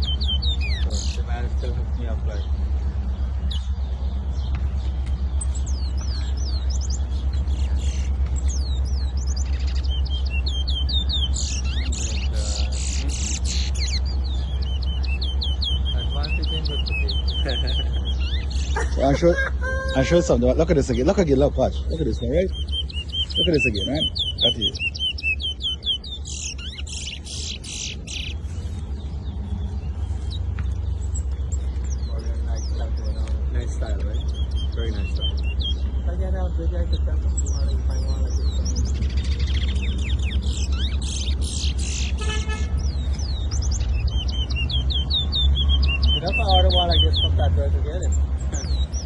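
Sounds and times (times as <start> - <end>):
bird chirping and whistling: 0.0 - 1.7, 3.2 - 36.1, 36.9 - 49.0
steady low hum: 0.0 - 44.1
songbird singing: 0.0 - 49.0
steady low rumble: 0.0 - 49.0.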